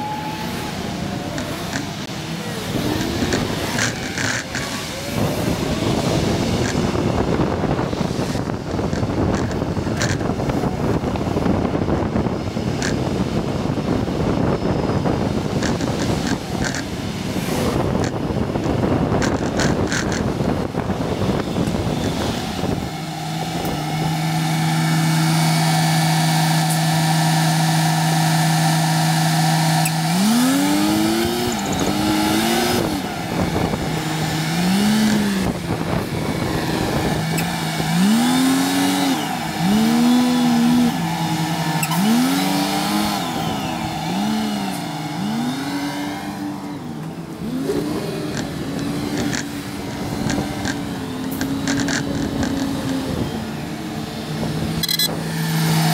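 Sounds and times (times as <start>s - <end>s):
road and wind noise: 0.0s - 55.9s
vehicle engine revving: 0.0s - 55.9s.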